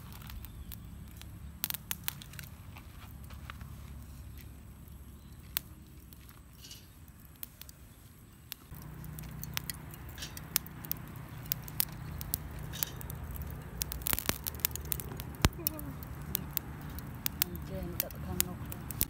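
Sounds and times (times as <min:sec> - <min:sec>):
corn cobs clicking on wire grill: 0:00.0 - 0:03.2, 0:03.9 - 0:19.0
low steady rumble: 0:00.0 - 0:19.0.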